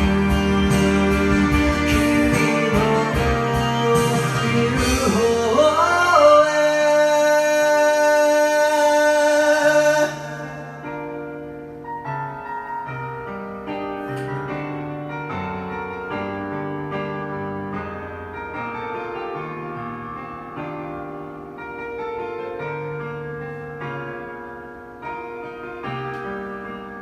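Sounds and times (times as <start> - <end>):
piano playing chords: 0.0 - 27.0.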